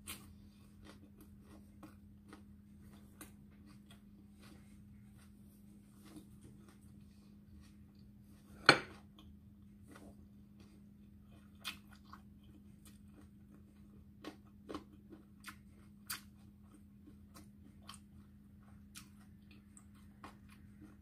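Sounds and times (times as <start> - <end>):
person chewing: 0.0 - 21.0
steady low hum: 0.0 - 21.0.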